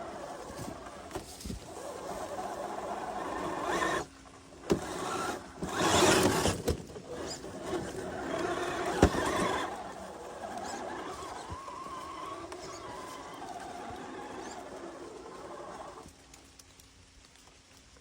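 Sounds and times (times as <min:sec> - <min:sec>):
toy car electric motor: 0:00.0 - 0:16.2.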